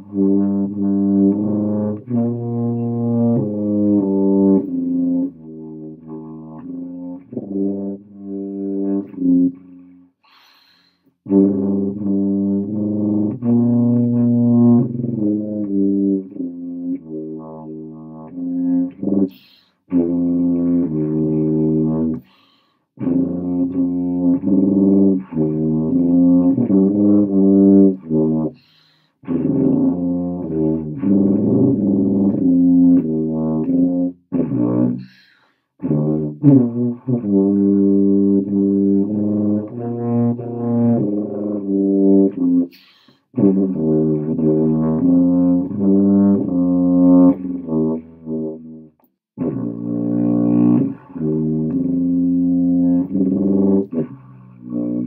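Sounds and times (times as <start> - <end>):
solo tuba melody: 0.0 - 10.3, 11.2 - 35.2, 35.8 - 55.0.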